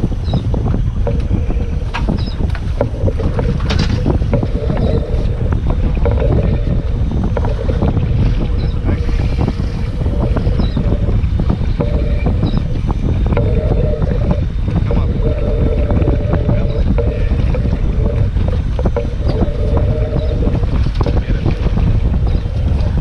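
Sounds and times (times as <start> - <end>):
boat motor: 0.0 - 23.0
wind buffeting microphone: 0.0 - 23.0
boat hull knocking on waves: 0.6 - 23.0.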